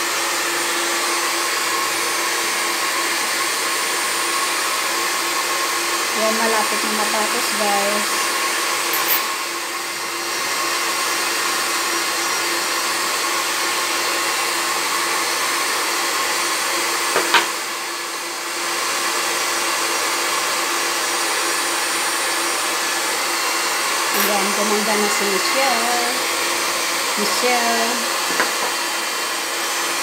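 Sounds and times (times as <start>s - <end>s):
hair dryer blowing: 0.0s - 30.0s.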